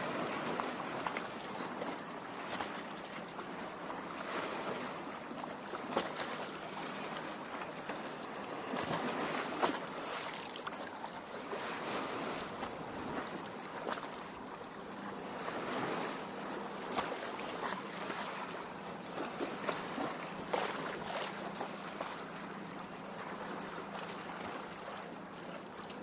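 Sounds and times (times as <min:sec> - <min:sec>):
little water splashes: 0:00.0 - 0:26.0
waves lapping at shore: 0:00.0 - 0:26.0.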